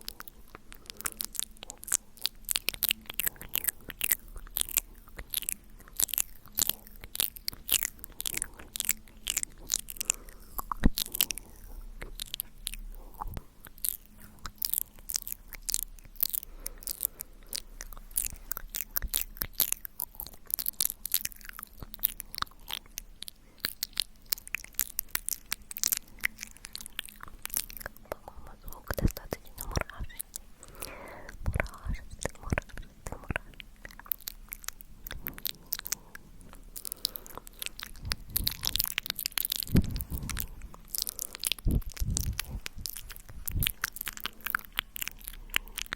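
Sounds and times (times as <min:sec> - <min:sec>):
wet lip and tongue clicks: 0:00.0 - 0:45.9.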